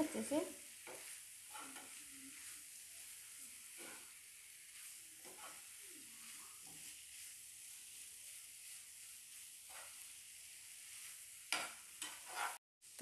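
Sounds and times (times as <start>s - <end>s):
steel spatula stirring: 0.0s - 12.6s
vegetables sizzling in frying pan: 0.0s - 13.0s.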